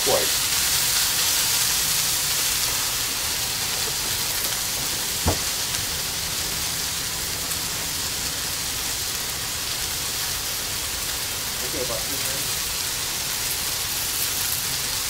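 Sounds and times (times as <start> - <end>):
chicken sizzling on a griddle: 0.0 - 15.0.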